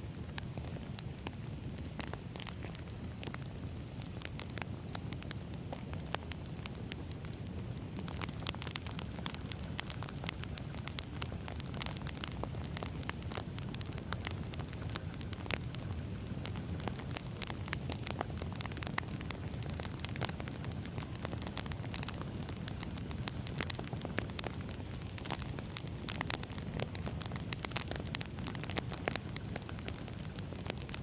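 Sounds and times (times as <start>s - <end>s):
firewood crackling and popping: 0.0s - 31.0s
low rumble of flames: 0.0s - 31.0s.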